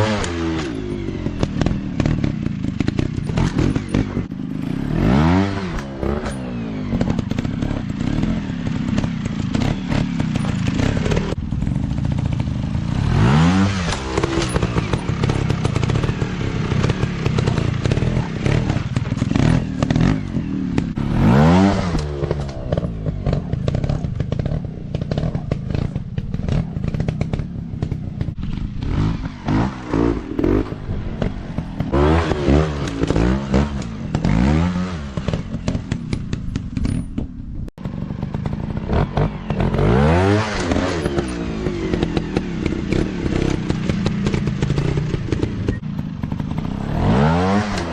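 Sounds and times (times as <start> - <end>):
dirt bike engines revving: 0.0 - 37.0, 37.8 - 47.9.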